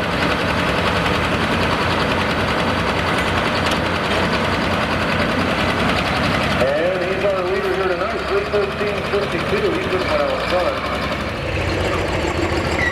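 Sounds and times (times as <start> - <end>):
diesel tractor engine at full throttle: 0.0 - 12.9.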